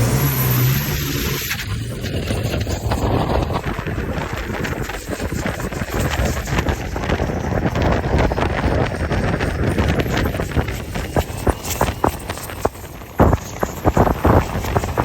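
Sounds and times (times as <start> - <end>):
motorboat engine rumble: 0.0 - 15.0
wind buffeting microphone: 0.0 - 15.0.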